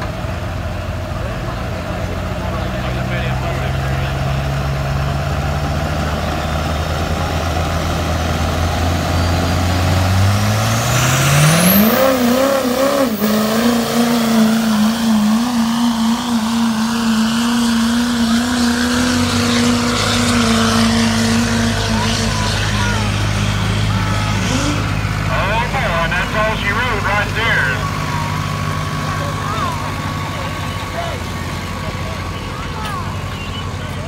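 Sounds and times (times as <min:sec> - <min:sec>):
diesel truck engine revving: 0:00.0 - 0:34.0.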